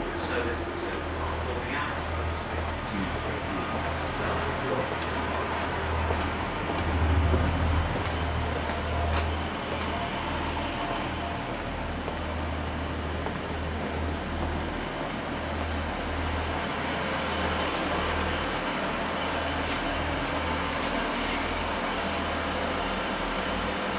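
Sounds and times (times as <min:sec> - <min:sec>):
traffic noise: 0:00.0 - 0:23.9.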